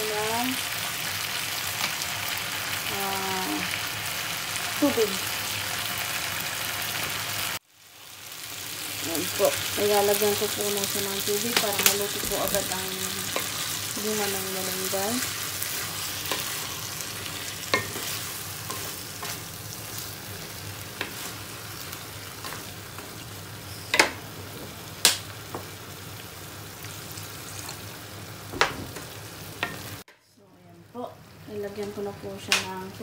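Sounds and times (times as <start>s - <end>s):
food sizzling in a frying pan: 0.0s - 30.1s, 30.8s - 33.0s.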